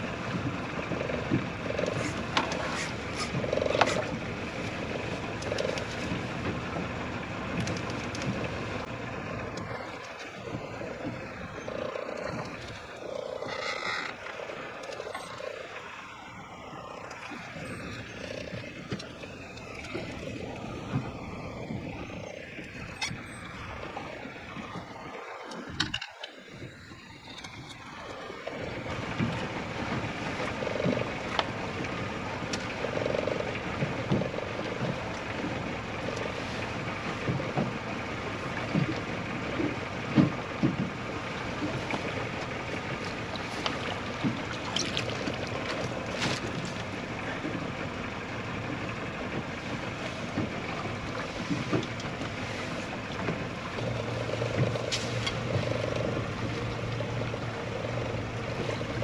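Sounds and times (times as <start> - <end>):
low hum of boat: 0.0 - 59.0.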